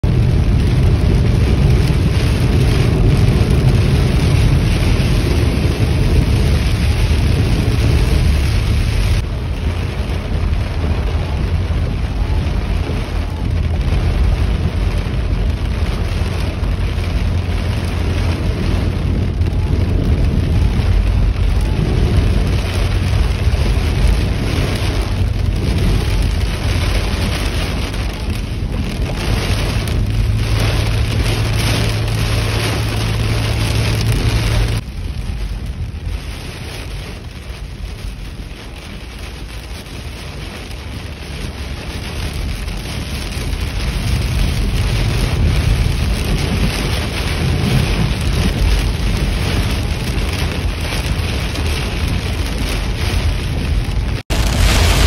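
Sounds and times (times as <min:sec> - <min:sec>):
car driving on wet road: 0:00.0 - 0:55.0
heavy rain pounding on car roof: 0:00.0 - 0:55.0.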